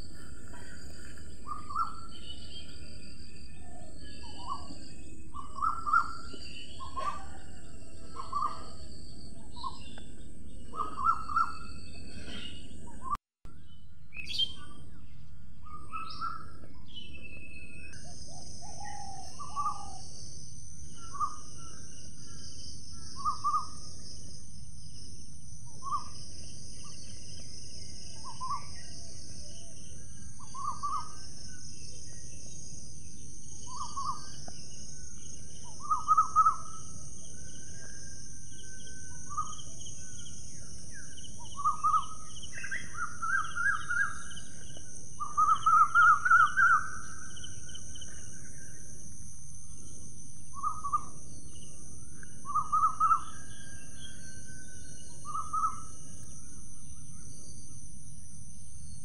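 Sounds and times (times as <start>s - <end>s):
birds calling: 0.0s - 13.2s, 14.1s - 25.1s, 25.7s - 57.7s.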